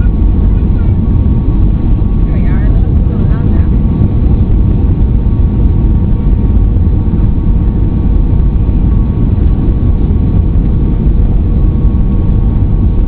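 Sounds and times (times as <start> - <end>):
airliner engines rumbling in cabin: 0.0 - 13.0.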